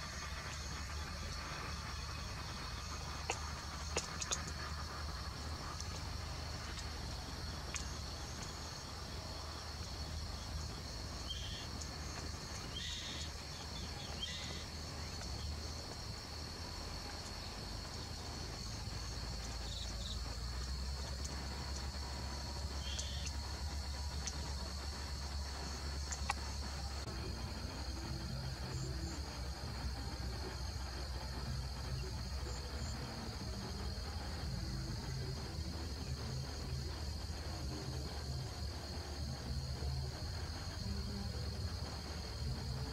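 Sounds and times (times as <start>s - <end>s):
faint chirps: 0.0s - 42.9s
insects droning: 0.0s - 42.9s
low background rumble: 0.0s - 42.9s.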